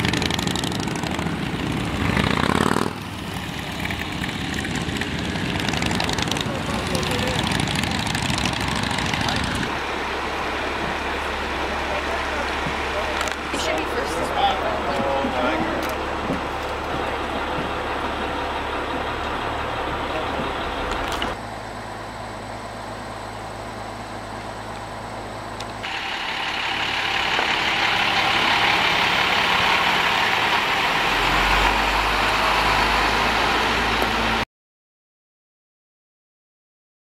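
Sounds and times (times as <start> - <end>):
bus engine passing by: 0.0 - 34.5.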